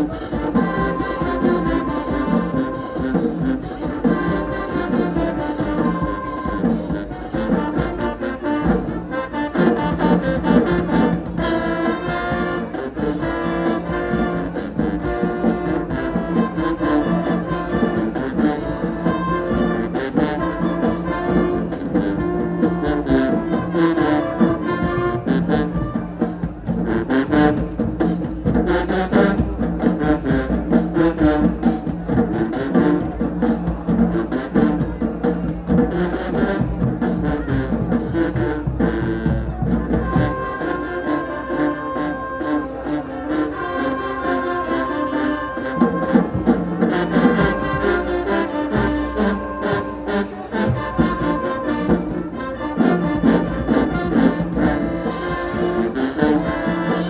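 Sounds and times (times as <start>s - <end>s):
drum section beat: 0.0s - 57.0s
marching band brass: 0.0s - 57.0s.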